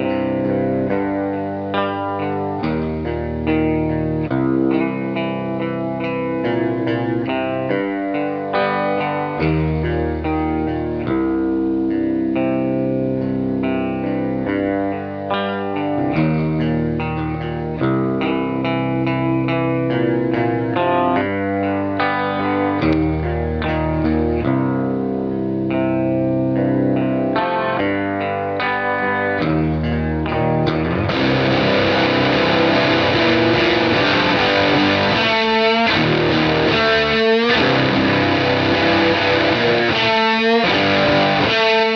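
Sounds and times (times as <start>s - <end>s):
electric guitar chords with effects: 0.0s - 41.9s.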